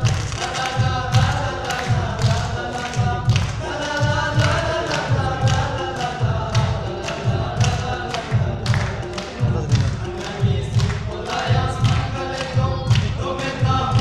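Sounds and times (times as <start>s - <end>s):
hand claps: 0.0s - 14.0s
low thumping beat: 0.0s - 14.0s
men singing in unison: 0.0s - 14.0s.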